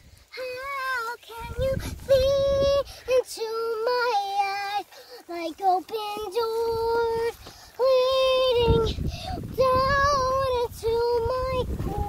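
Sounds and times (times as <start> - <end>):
girl singing a melody: 0.0 - 12.0.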